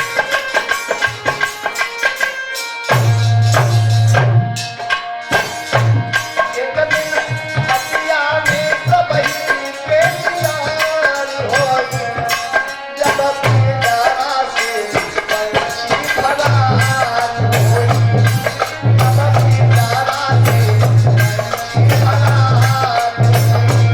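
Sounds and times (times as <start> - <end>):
hand drums: 0.0 - 23.9
wavering folk melody: 4.6 - 23.9.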